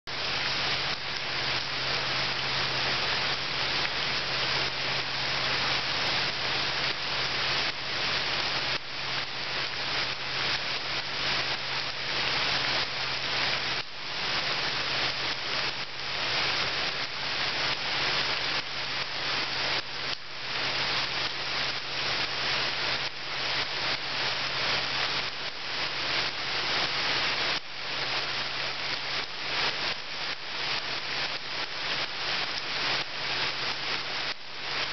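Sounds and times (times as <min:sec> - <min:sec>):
rain falling into a puddle: 0:00.1 - 0:34.9.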